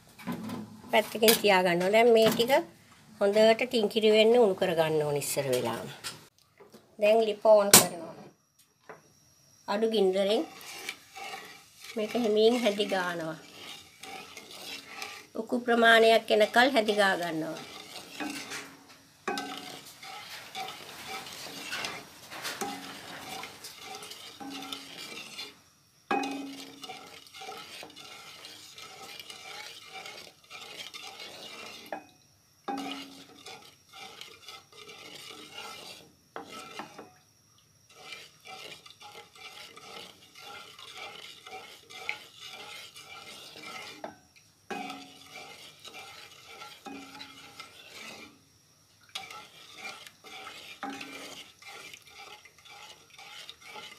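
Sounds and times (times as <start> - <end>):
wooden spatula scraping wok: 0.0 - 6.2, 9.7 - 32.1, 32.7 - 37.1, 37.8 - 53.9.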